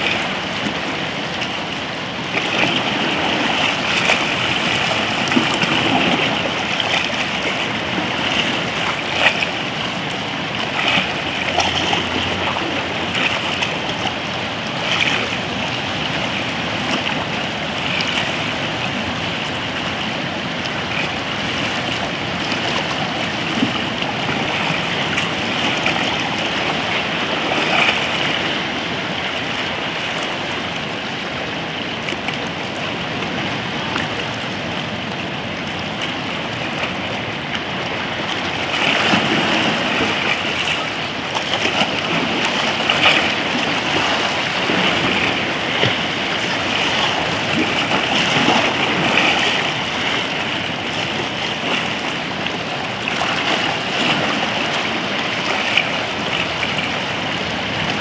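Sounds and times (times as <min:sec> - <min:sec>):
water lapping around rocks: 0:00.0 - 0:58.0
water splashes: 0:00.0 - 0:58.0.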